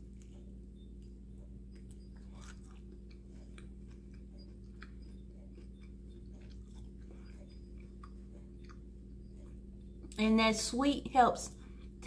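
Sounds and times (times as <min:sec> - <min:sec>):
person chewing: 0:00.0 - 0:10.2
steady low hum: 0:00.0 - 0:12.0.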